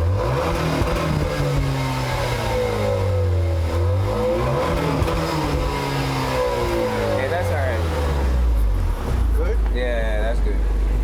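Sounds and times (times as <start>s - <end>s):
car engine and exhaust under throttle: 0.0s - 11.0s.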